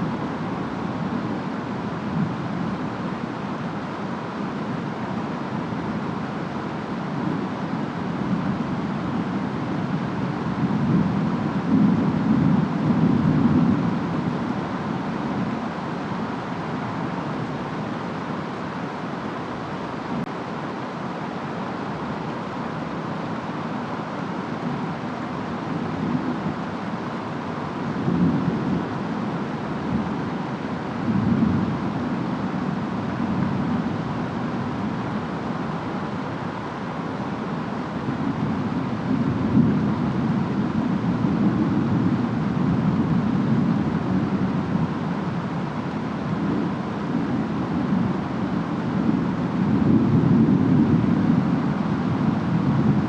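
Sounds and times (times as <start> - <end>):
steady rain: 0.0 - 53.0
wind noise: 0.0 - 53.0.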